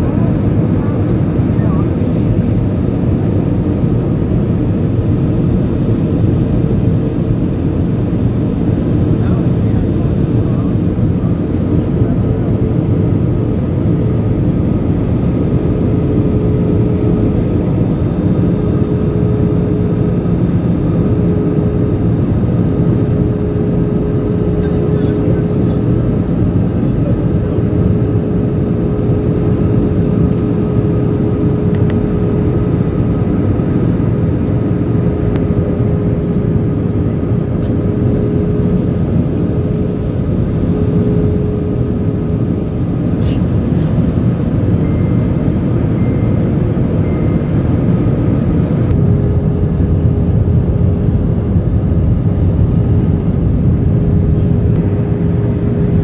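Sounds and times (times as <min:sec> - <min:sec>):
jet engine cabin drone: 0:00.0 - 0:56.0
steady hum tone: 0:00.0 - 0:56.0.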